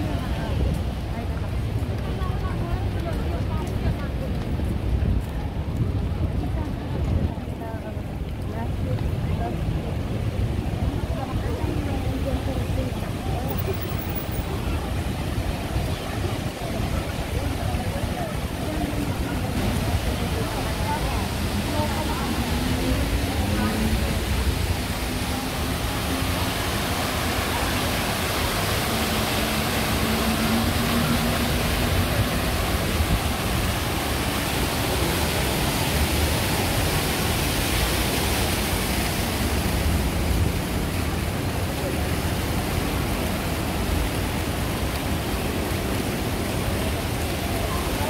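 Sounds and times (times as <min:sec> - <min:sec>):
city ambience rushing noise: 0:00.0 - 0:48.0.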